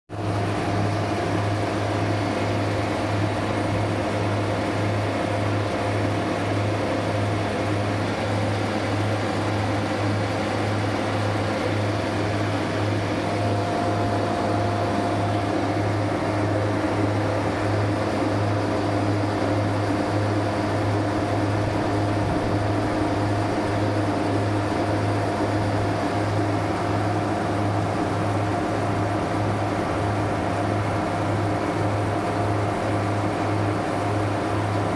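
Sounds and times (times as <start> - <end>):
refrigeration equipment humming: 0.1 - 34.9.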